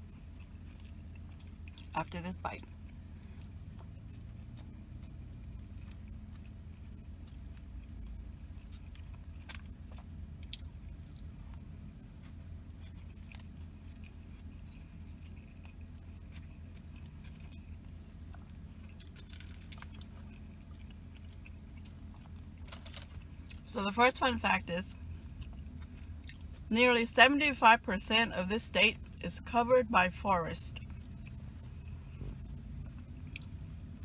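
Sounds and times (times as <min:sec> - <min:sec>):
chewing rice: 0:00.0 - 0:23.7, 0:24.9 - 0:26.7, 0:30.7 - 0:33.8
low hum: 0:00.0 - 0:34.0.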